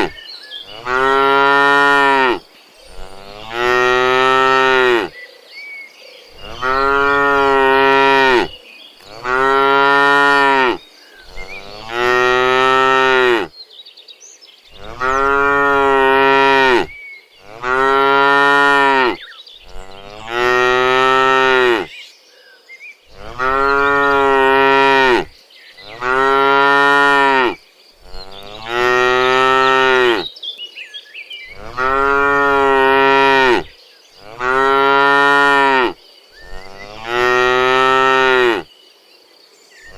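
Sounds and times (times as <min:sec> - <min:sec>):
cows mooing: 0:00.0 - 0:05.1, 0:06.4 - 0:13.5, 0:14.8 - 0:21.9, 0:23.1 - 0:30.3, 0:31.5 - 0:38.7.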